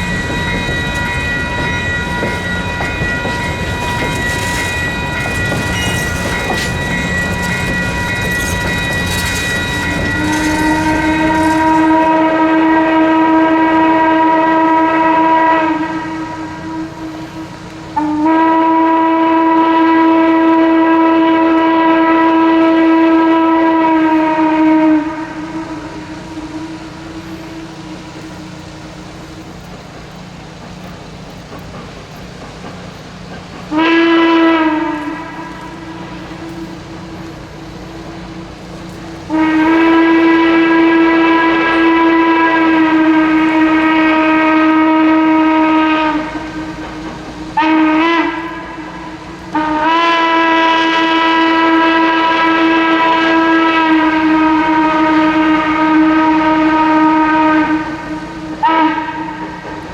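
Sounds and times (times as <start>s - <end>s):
steam locomotive whistle: 0.0s - 31.7s, 32.4s - 59.9s
steady train noise: 0.0s - 59.9s.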